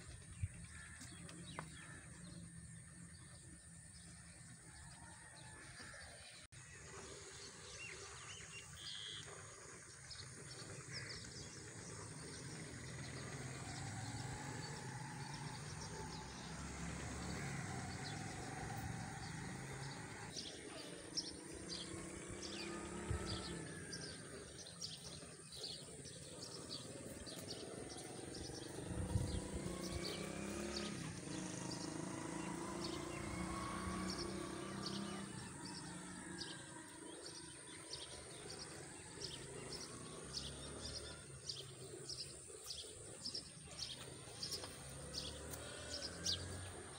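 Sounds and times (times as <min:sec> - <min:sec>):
birds calling: 0:00.0 - 0:46.9.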